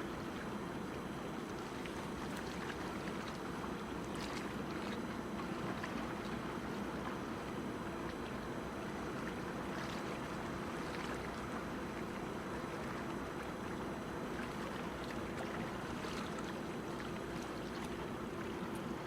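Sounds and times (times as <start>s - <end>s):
low steady engine hum: 0.0s - 19.0s.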